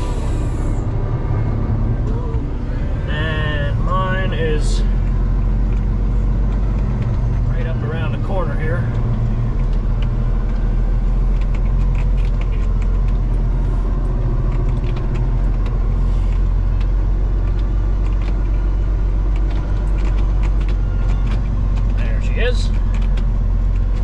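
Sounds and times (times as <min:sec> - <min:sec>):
diesel truck engine drone: 0:00.0 - 0:24.0.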